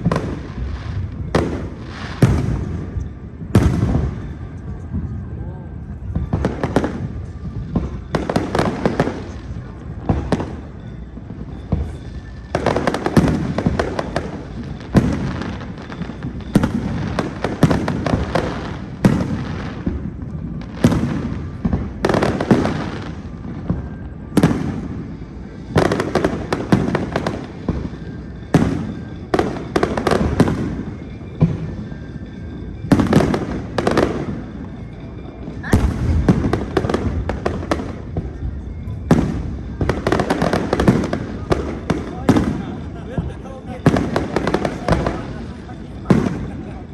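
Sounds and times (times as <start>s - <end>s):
fireworks bursting with loud bangs: 0.0s - 46.9s.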